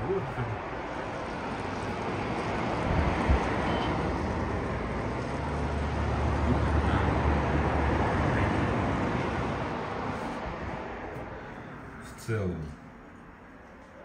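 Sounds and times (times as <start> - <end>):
passing cars rushing: 0.0 - 13.5.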